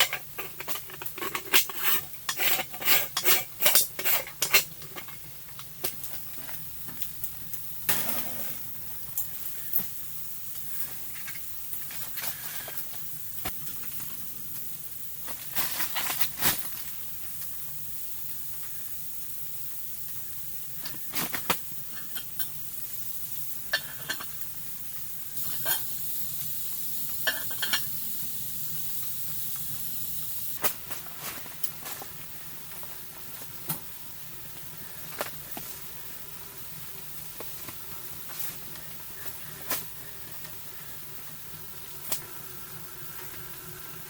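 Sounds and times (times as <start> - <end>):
wood stove sizzling and crackling: 0.0 - 44.0.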